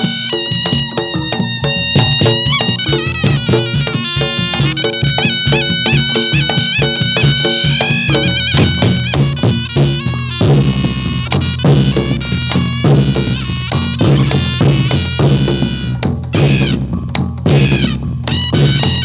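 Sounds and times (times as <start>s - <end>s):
drums: 0.0s - 19.0s
reedy double-reed horn melody: 0.0s - 19.0s.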